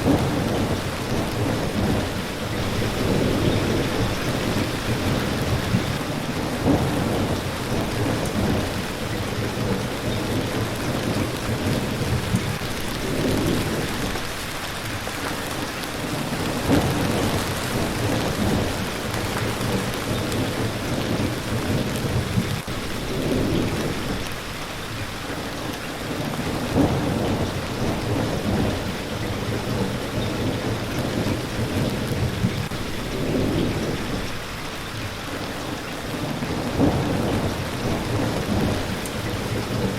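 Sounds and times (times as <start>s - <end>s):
steady rain falling: 0.0s - 39.9s
thunder rumbling: 0.0s - 39.9s.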